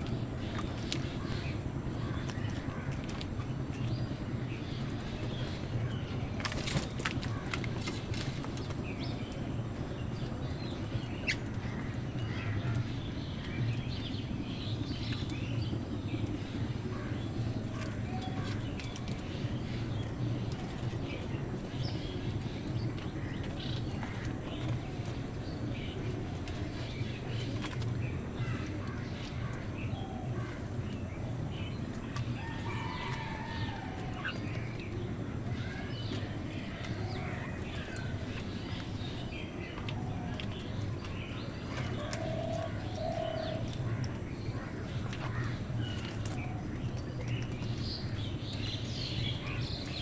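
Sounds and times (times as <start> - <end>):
flock of birds chirping: 0.0 - 50.0
steady low hum: 0.0 - 50.0
steady low rumble: 0.0 - 50.0.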